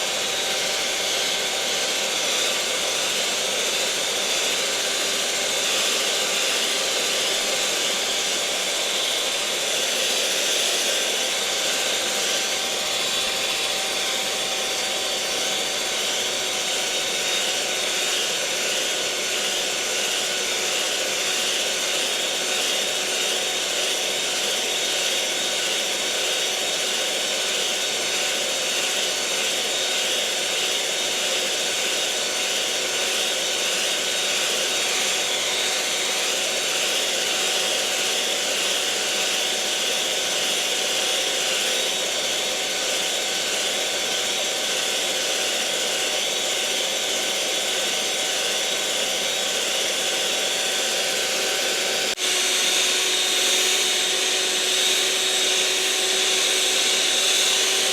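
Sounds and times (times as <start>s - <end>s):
electric mixer motor whirring: 0.0s - 57.9s.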